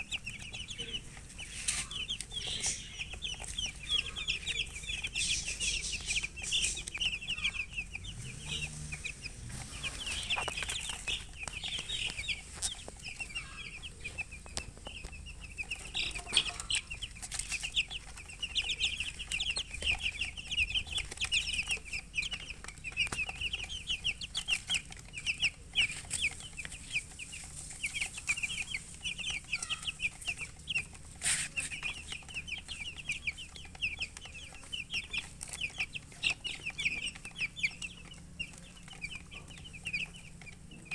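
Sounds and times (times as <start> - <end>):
baby chicks chirping: 0.0 - 40.9.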